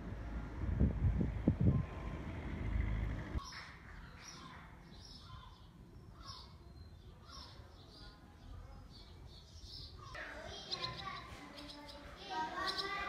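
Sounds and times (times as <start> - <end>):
faint small birds chirping: 1.8 - 13.0.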